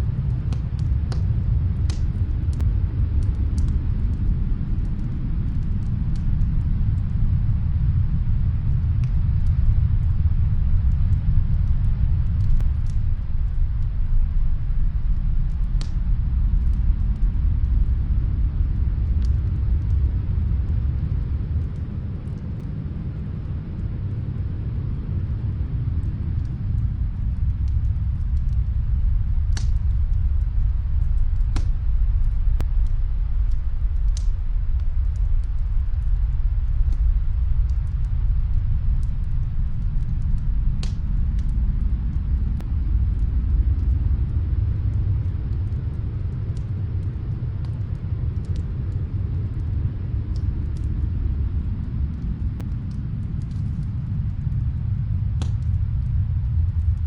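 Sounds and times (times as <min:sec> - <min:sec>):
snowstorm wind rumble: 0:00.0 - 0:57.0
wood fire popping: 0:00.0 - 0:57.0.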